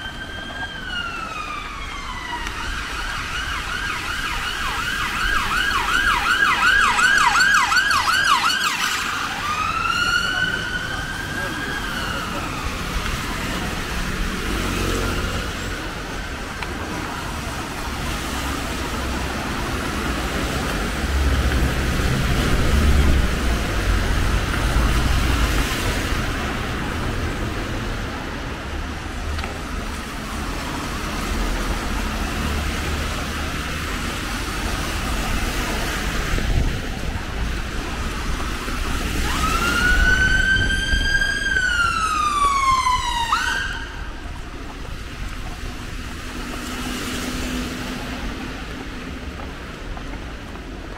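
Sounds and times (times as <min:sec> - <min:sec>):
emergency vehicle siren wailing: 0:00.0 - 0:50.9
road traffic: 0:00.0 - 0:50.9.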